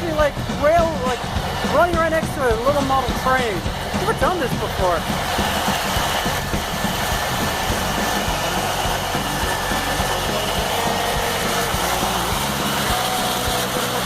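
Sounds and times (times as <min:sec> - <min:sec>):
model train motor whirring: 0:00.0 - 0:14.0.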